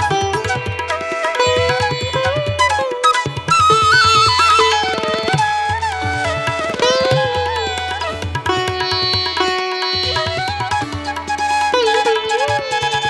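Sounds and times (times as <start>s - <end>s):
gliding melodic line: 0.0s - 13.0s.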